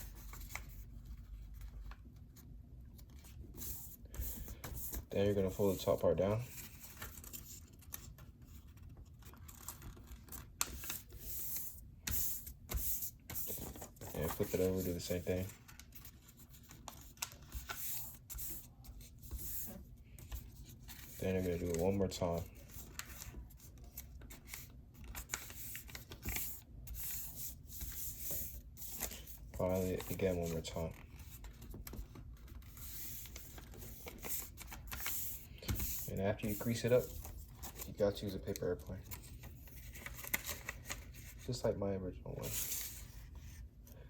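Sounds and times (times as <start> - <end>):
paper crackles: 0.0 - 41.6
paper rustling and rubbing: 0.0 - 41.7, 42.3 - 43.7.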